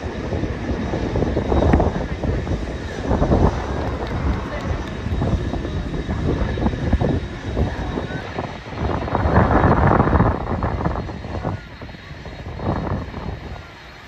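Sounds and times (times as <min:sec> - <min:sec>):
jet engines whining: 0:00.0 - 0:14.0
wind buffeting microphone: 0:00.0 - 0:14.0.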